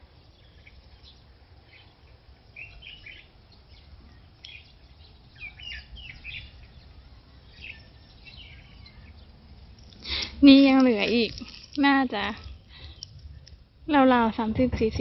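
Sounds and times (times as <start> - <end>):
small birds chirping: 0.0 - 14.4
steady low rumble: 0.0 - 15.0.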